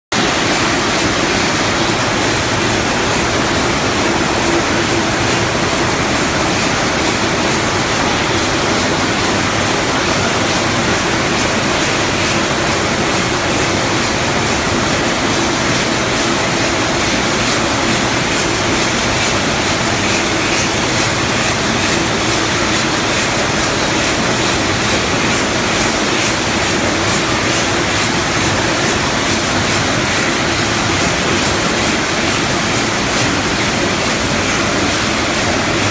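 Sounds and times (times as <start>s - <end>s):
processing line machinery din: 0.1s - 35.9s.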